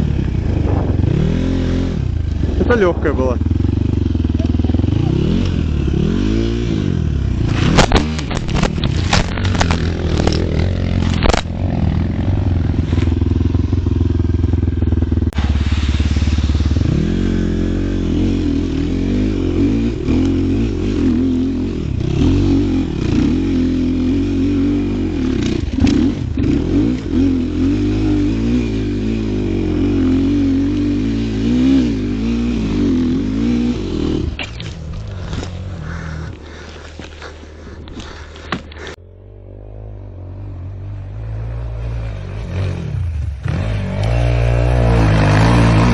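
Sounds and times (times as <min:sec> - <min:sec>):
vehicle engine revving: 0:00.0 - 0:45.9.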